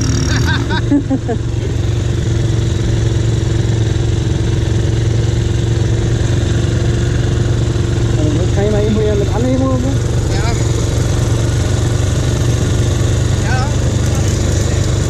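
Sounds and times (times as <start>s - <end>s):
quad bike engine idling: 0.0s - 15.0s.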